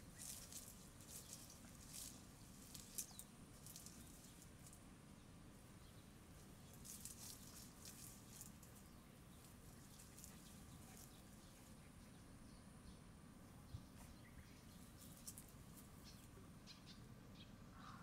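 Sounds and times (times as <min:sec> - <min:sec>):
grass rustling: 0:00.0 - 0:12.2, 0:13.9 - 0:16.4.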